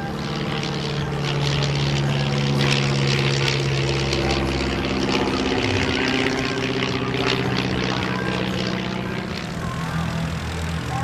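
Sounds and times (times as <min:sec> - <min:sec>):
propeller plane engine droning overhead: 0:00.0 - 0:11.0.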